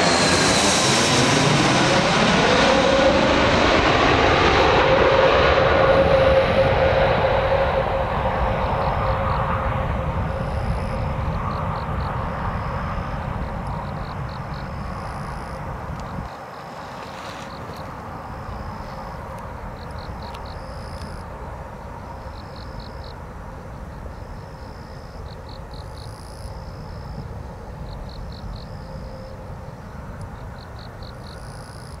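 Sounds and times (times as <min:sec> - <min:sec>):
distant jet engines rumbling: 0:00.0 - 0:32.0.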